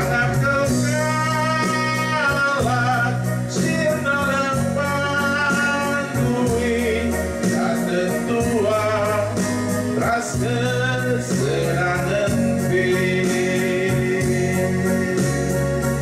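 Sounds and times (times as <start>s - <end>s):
instrumental backing: 0.0s - 16.0s
man singing a hymn: 0.0s - 16.0s.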